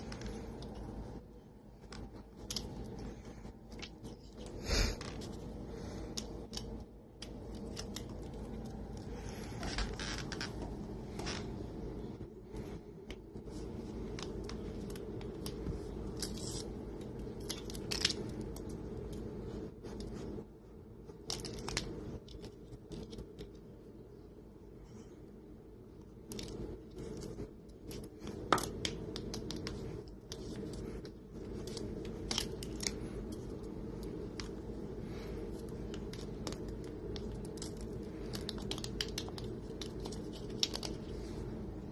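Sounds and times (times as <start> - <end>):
kitten chewing plastic straw: 0.0 - 23.8, 26.1 - 41.7
steady low hum: 0.0 - 41.9.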